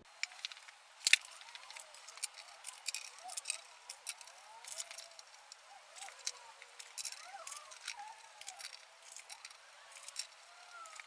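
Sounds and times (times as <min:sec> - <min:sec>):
hand tools clicking and clacking: 0:00.2 - 0:11.0
chirping squeaks: 0:01.3 - 0:11.0.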